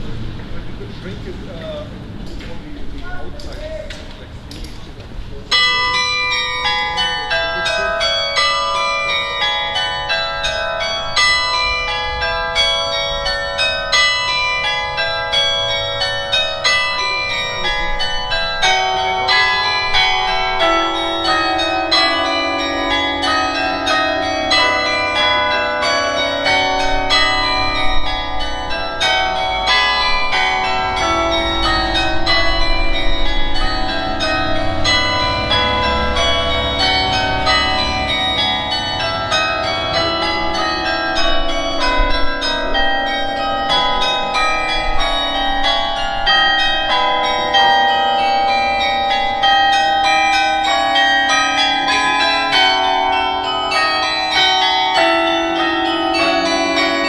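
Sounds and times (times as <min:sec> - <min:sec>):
carillon bells playing melody: 0:03.0 - 0:57.0.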